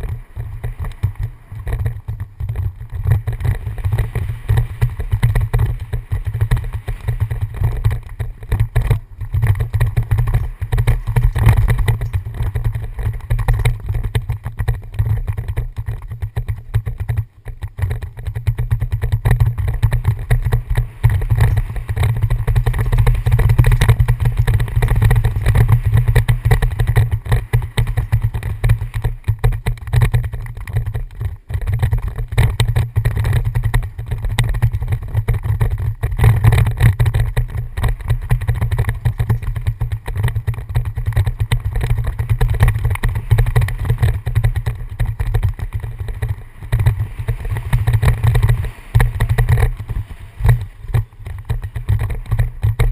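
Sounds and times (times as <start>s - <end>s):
bike rattling over dirt trail: 0.0s - 52.9s
wind buffeting microphone: 0.0s - 52.9s.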